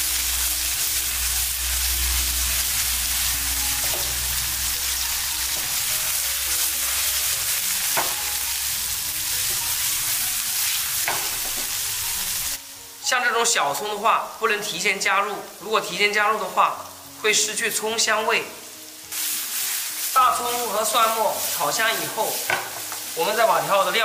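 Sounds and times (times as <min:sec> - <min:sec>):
garlic sizzling in hot oil: 0:00.0 - 0:24.0.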